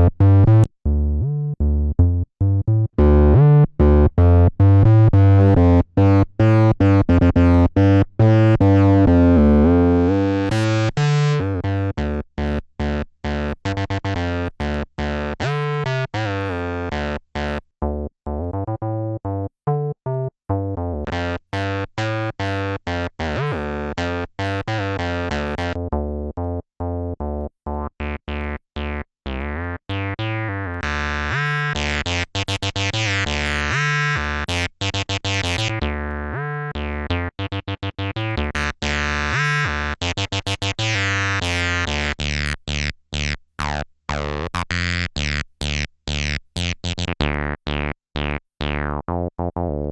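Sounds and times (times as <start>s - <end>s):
staccato acid synth bassline: 0.0s - 49.9s.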